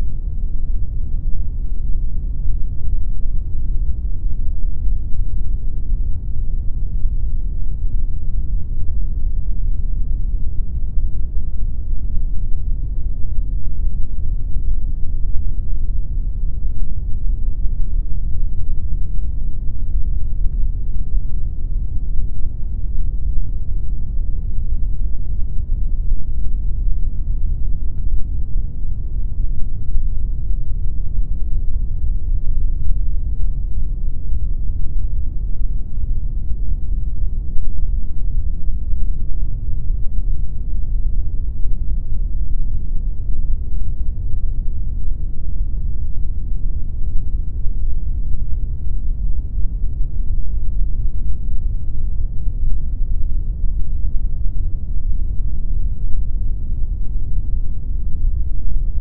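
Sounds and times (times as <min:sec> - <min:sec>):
deep pink noise: 0:00.0 - 0:59.0.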